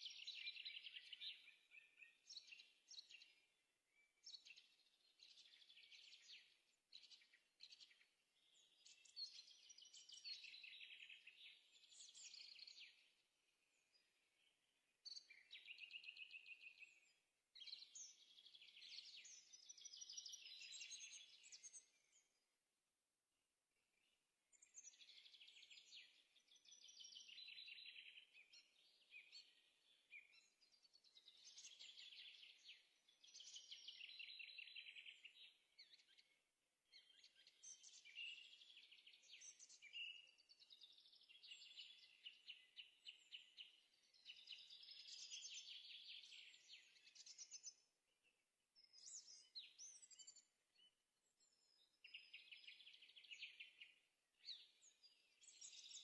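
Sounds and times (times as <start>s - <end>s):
bird singing trilled phrases: 4.2s - 22.3s, 24.0s - 36.4s, 37.0s - 47.9s, 48.8s - 56.0s.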